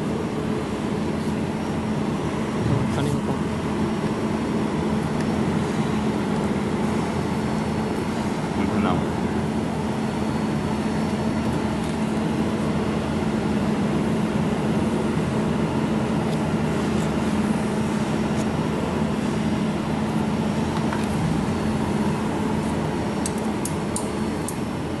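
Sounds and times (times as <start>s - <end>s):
cooling fan hum: 0.0s - 25.0s.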